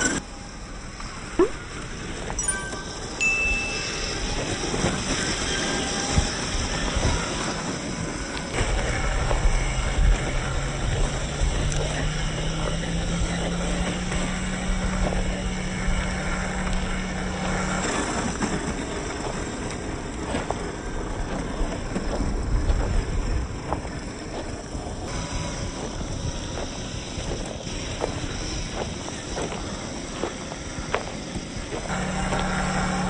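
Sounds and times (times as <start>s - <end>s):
toy truck motor hum: 0.0s - 33.0s.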